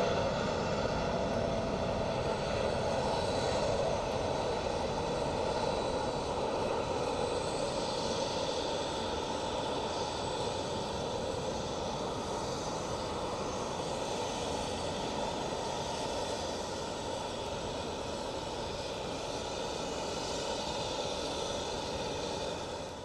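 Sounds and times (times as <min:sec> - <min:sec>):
jet engines at takeoff power: 0:00.0 - 0:23.0.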